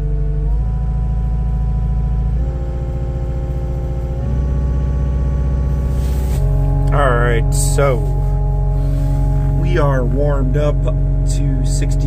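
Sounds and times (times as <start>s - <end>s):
diesel engine idling and revving: 0.0s - 12.0s.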